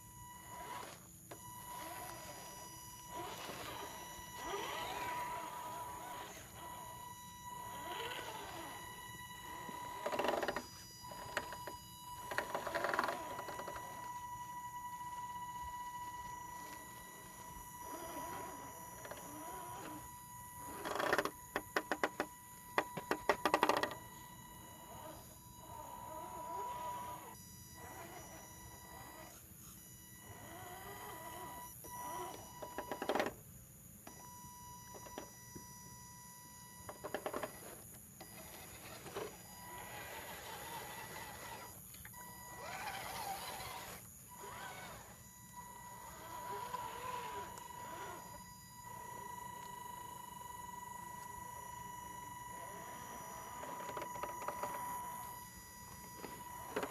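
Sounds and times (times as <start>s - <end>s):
electric motor whining: 0.0s - 33.4s, 36.8s - 56.9s.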